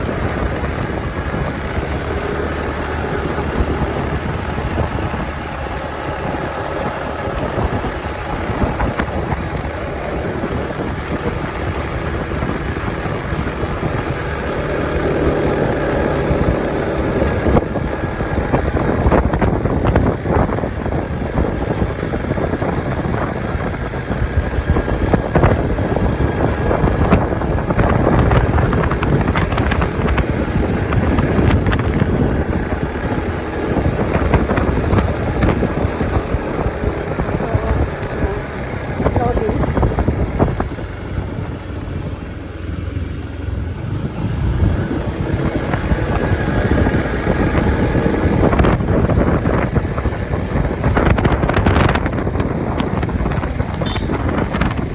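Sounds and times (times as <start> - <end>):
motorcycle engine running: 0.0 - 54.9
wind noise on microphone: 0.0 - 54.9.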